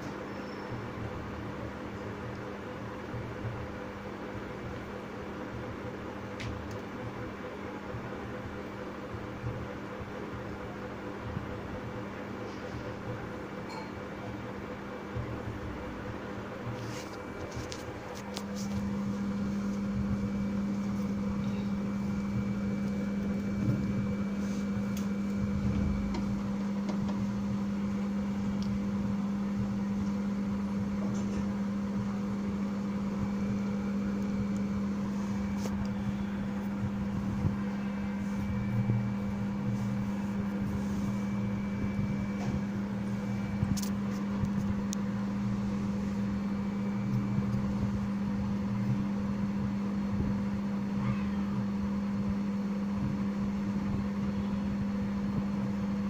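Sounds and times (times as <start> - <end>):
electrical hum with high whine: 0.0 - 56.0.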